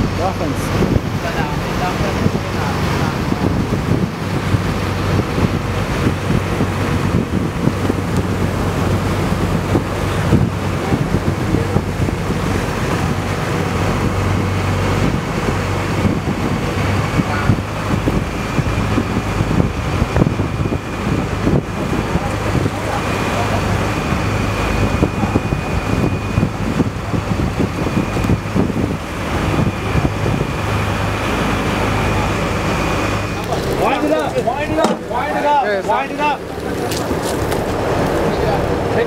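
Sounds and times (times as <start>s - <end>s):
boat engine humming: 0.0s - 39.0s
water rushing along hull: 0.0s - 39.0s
wind buffeting microphone: 0.0s - 39.0s.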